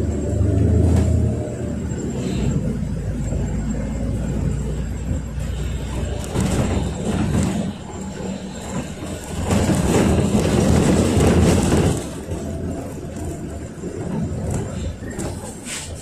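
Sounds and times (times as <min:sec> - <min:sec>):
bus engine rumble: 0:00.0 - 0:16.0
road noise: 0:00.0 - 0:16.0
bus body clicks and rattles: 0:00.3 - 0:16.0.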